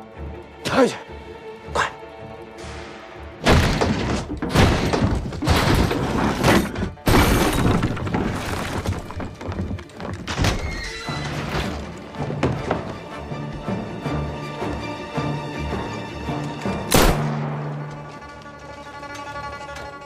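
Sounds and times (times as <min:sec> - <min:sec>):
dramatic orchestral film music: 0:00.0 - 0:20.0.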